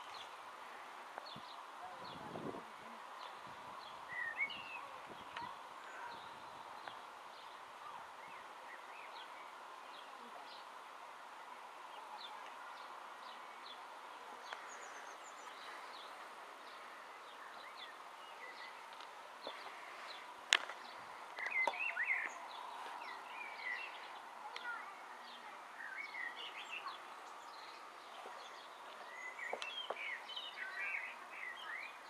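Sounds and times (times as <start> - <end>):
birds chirping: 0.0 - 32.0
steady background hiss: 0.0 - 32.0.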